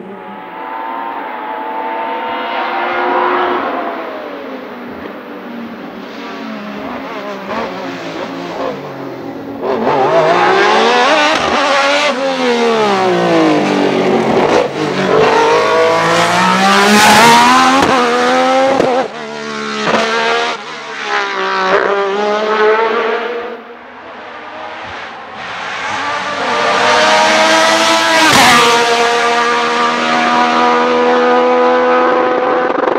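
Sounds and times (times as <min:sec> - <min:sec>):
race car engine revving: 0:00.0 - 0:05.2, 0:05.9 - 0:32.9.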